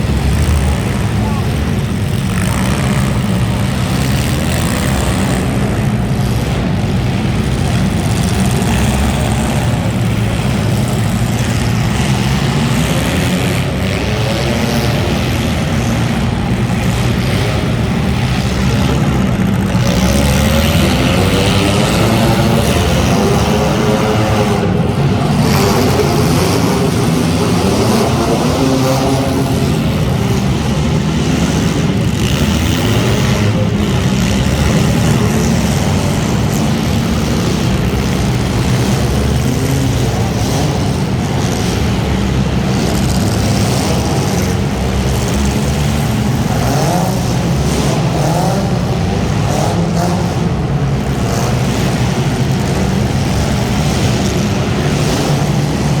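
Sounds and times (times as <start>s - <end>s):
race car engines running hard: 0.0s - 56.0s.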